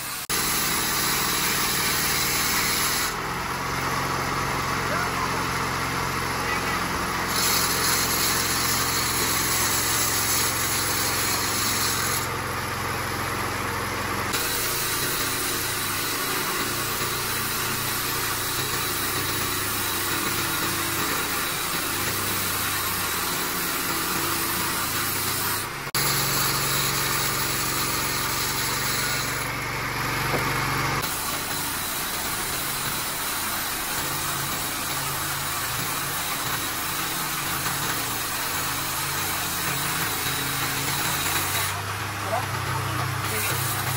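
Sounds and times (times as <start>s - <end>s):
sawmill mechanical drone: 0.0s - 43.9s.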